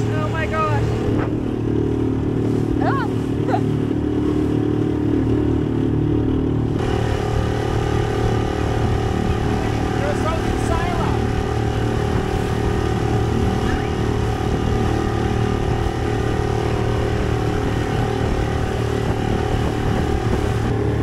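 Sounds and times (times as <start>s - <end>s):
outboard motor running: 0.0s - 21.0s
water rushing past hull: 0.0s - 21.0s.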